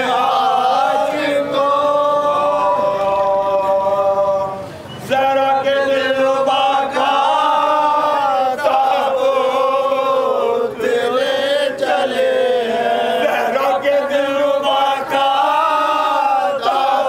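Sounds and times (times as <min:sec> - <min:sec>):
men chanting: 0:00.0 - 0:17.0.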